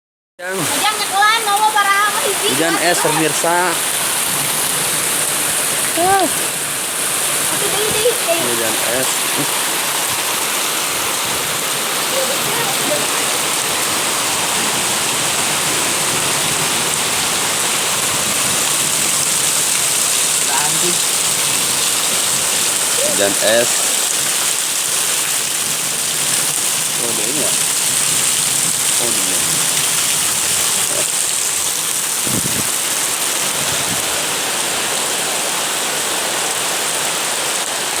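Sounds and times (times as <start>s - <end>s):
rain and hail pelting: 0.4s - 38.0s.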